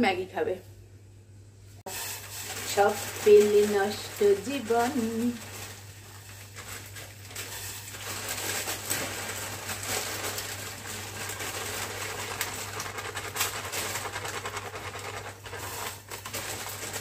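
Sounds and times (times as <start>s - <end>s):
noodles clicking and crackling: 1.9s - 17.0s
plastic packet crinkling: 1.9s - 17.0s.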